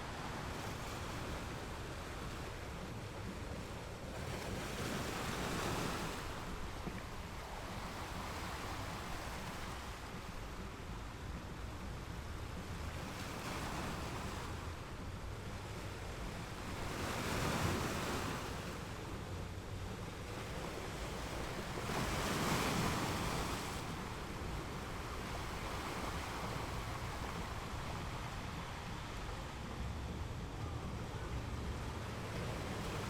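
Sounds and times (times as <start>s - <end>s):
ocean waves breaking: 0.0s - 33.0s
wind on microphone: 0.0s - 33.0s.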